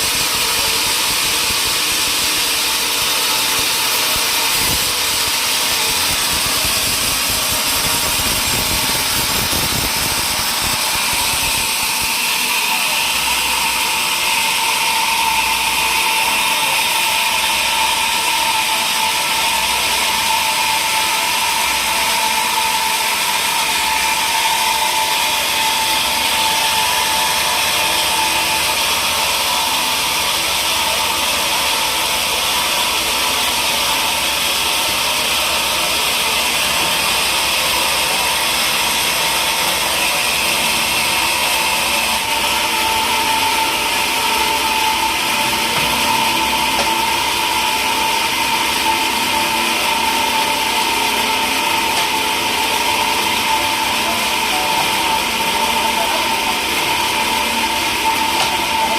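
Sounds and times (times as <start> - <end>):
woodworking machinery whining: 0.0 - 58.9.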